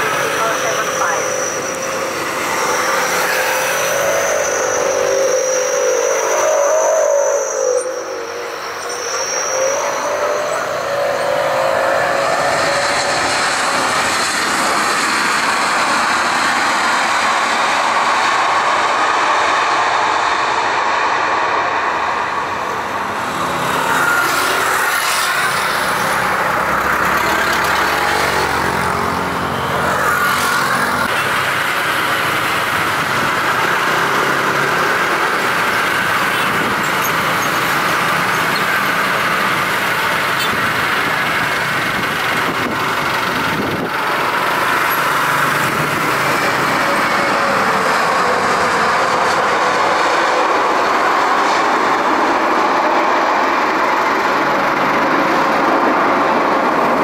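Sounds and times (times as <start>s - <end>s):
jet airliner engines roaring: 0.0s - 57.0s
jet engine whine: 0.0s - 57.0s.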